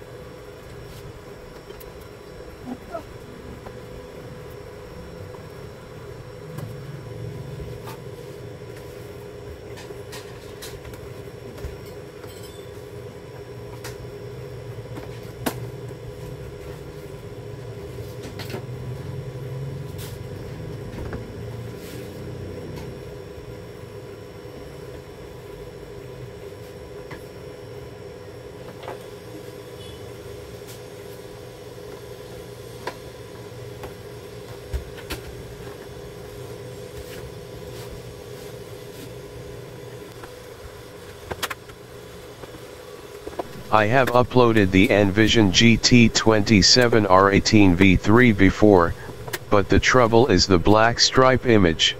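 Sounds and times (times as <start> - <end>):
steady background hum: 0.0 - 29.6, 39.7 - 51.9.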